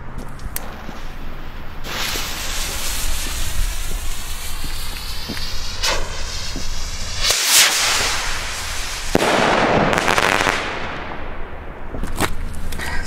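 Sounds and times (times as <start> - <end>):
hissing crackle: 0.4 - 11.2
firework burst: 0.6 - 11.6
firework sharp bang: 0.6 - 11.9.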